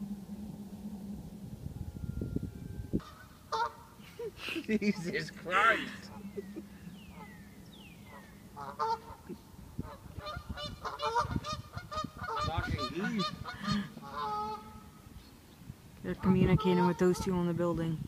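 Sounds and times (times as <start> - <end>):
geese honking: 0.0 - 15.2, 16.1 - 17.9.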